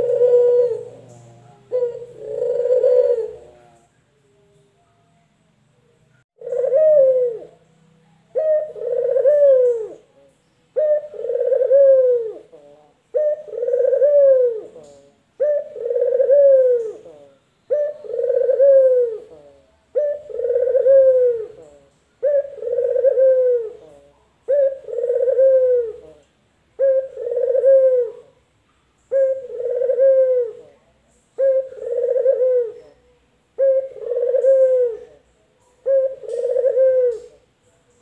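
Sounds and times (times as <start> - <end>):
dove cooing: 0.0 - 3.9, 6.4 - 7.6, 8.3 - 28.4, 29.0 - 37.4.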